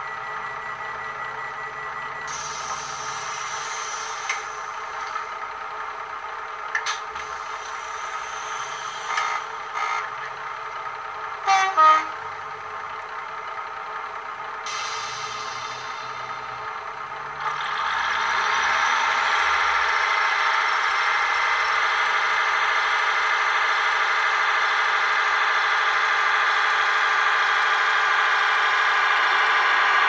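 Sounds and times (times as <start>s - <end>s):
thin diesel engine sound from speaker: 0.0s - 30.0s.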